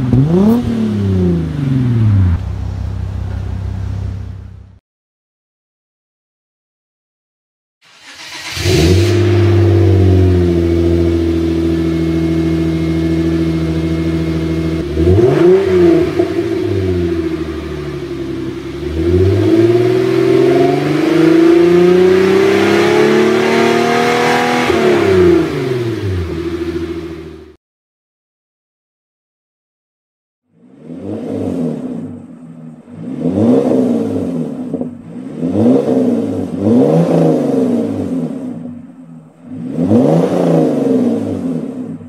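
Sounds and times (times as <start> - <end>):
car engine starting and revving: 0.0 - 4.8, 7.8 - 27.6, 30.5 - 42.0.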